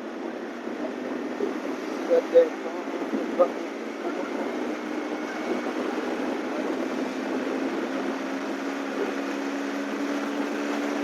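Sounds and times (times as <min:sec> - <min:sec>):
motorcycle engine humming: 0:00.0 - 0:11.0
road and wind noise: 0:00.0 - 0:11.0.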